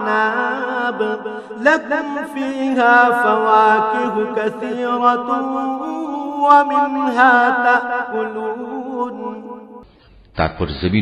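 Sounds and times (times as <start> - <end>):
man chanting melodically: 0.0 - 9.4.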